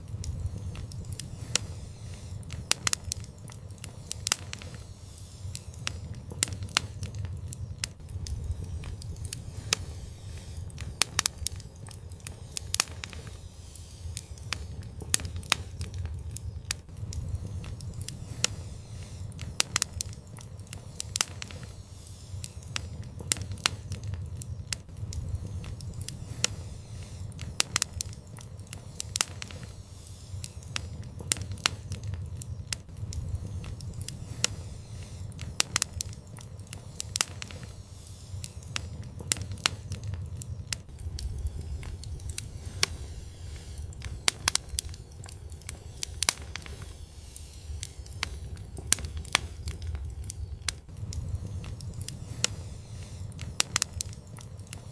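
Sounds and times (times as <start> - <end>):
fireplace fire crackling and popping: 0.0 - 54.9.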